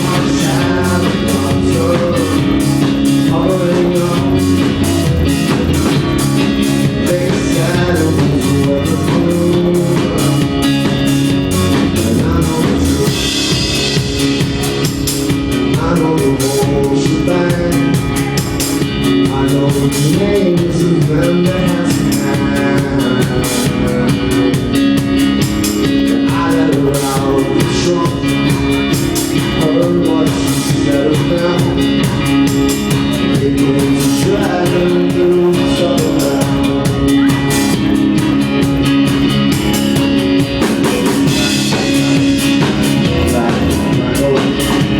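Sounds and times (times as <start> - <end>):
person singing: 0.0 - 14.8, 15.6 - 44.9
live rock band playing: 0.0 - 44.9
steady drum beat: 0.0 - 44.9.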